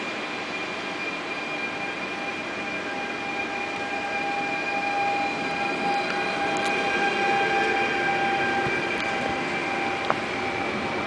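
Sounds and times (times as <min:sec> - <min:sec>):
electric train drive whine: 0:00.0 - 0:11.0
train wheels rumbling: 0:01.9 - 0:11.0.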